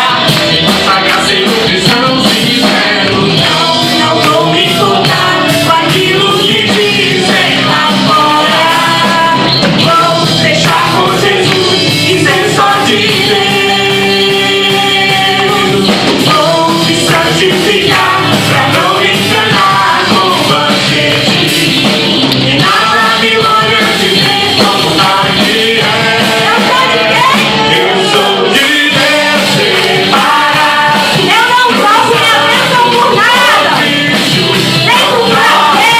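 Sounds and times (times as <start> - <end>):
person singing: 0.0 - 35.9
rock worship band music: 0.0 - 35.9.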